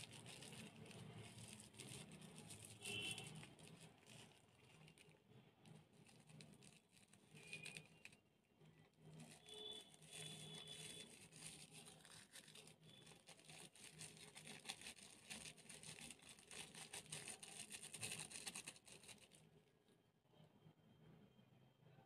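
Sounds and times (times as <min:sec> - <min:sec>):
slime crackling and crinkling: 0:00.0 - 0:19.5.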